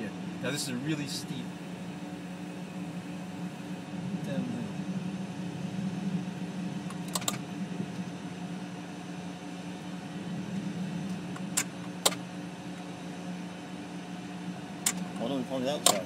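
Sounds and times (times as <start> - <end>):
jet cockpit hum: 0.0 - 16.0.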